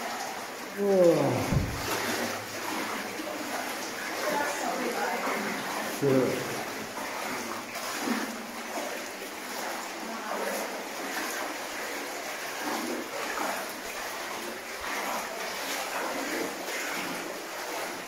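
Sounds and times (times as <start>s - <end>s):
water sloshing around wading legs: 0.0s - 18.0s.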